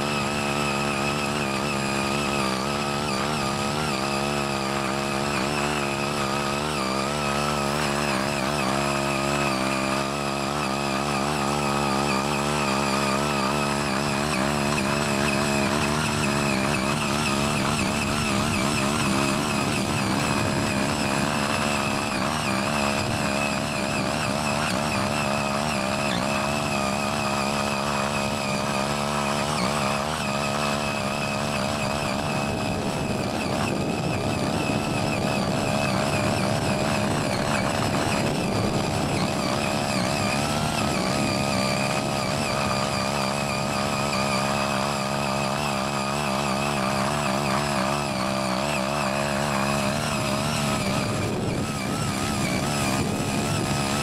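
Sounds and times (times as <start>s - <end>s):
tiller engine running: 0.0s - 54.0s
tilling blades churning soil: 0.0s - 54.0s.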